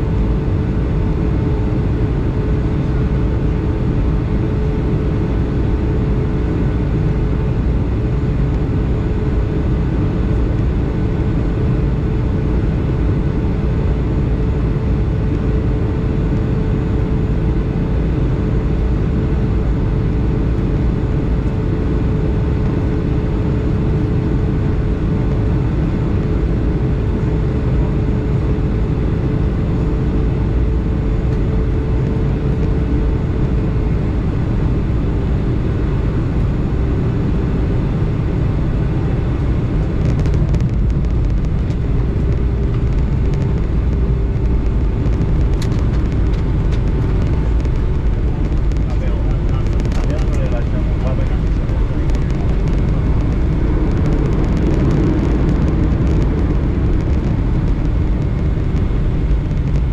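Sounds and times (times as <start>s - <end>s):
aircraft engine drone: 0.0s - 59.9s
airflow rushing in aircraft cabin: 0.0s - 59.9s.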